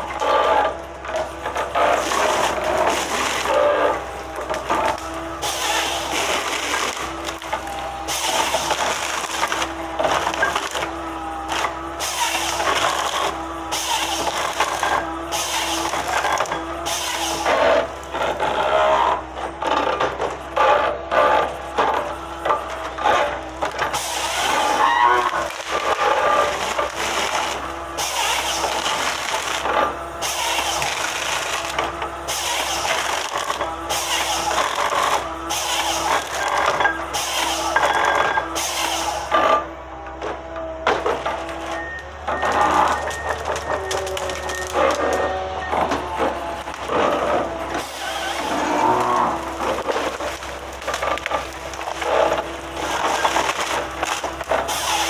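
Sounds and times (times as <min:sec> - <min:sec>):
hydraulic machine engine whining: 0:00.0 - 0:55.0
wood cracking and crunching: 0:00.0 - 0:55.0.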